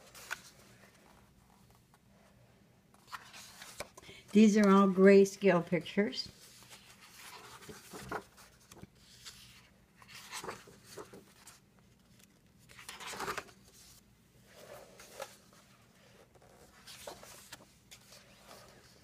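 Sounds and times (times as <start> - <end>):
paper pages turning: 0.0 - 1.9, 2.9 - 5.2, 6.2 - 19.0.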